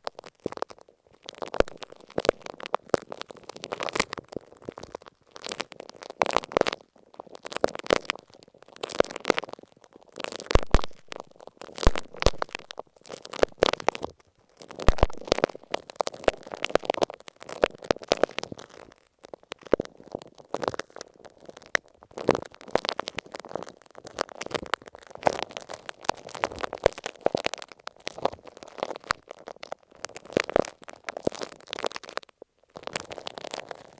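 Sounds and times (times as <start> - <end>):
scratchy crackling on microphone: 0.0 - 33.9.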